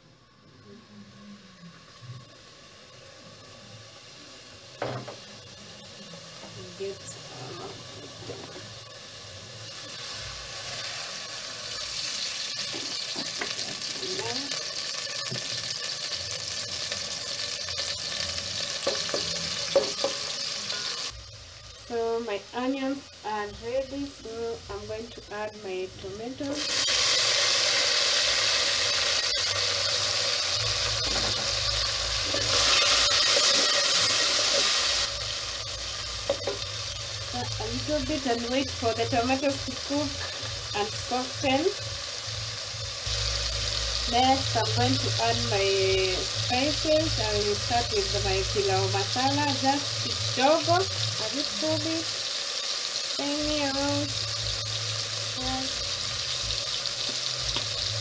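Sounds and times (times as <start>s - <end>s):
onions sizzling in hot oil: 0.0s - 58.0s.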